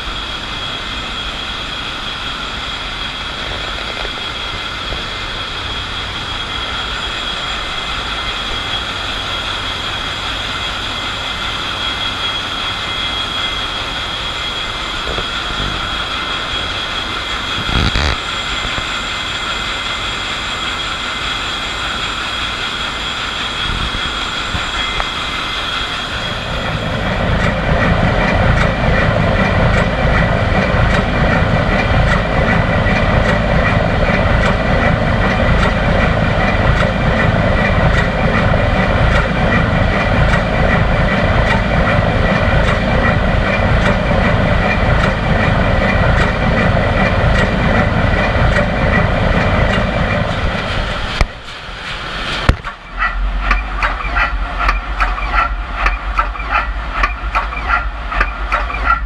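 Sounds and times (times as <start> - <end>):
ship engine running with ticking: 0.0 - 59.0
turbocharger whine: 0.0 - 59.0.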